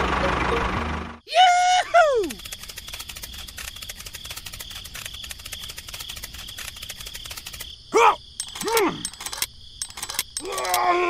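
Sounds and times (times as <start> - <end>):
crickets chirping: 1.3 - 11.0.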